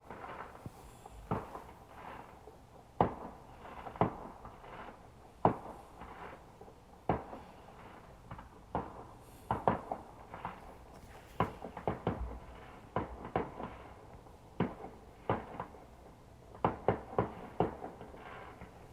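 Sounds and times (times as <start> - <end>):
fireworks bangs: 0.0 - 18.9.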